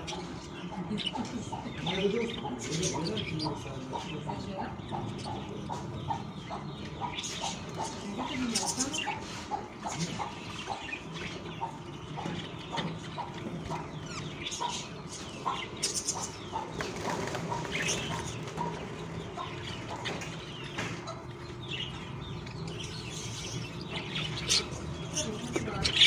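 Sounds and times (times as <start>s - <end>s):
bird chicks chirping and squeaking: 0.0s - 26.0s
low steady hum: 0.0s - 26.0s.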